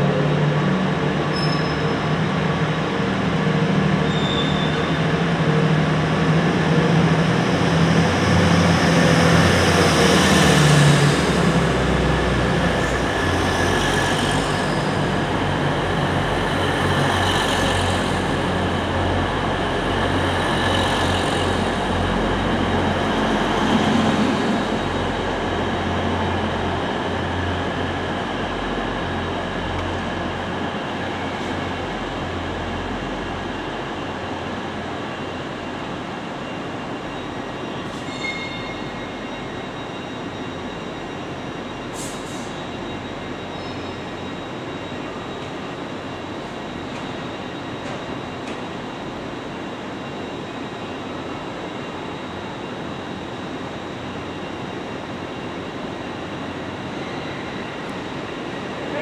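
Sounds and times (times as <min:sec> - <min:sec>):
diesel train engines running: 0:00.0 - 0:59.0.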